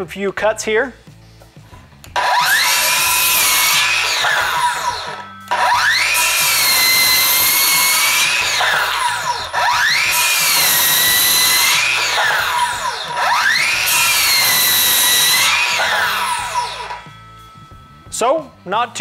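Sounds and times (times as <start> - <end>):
circular saw cutting wood: 2.2 - 17.6.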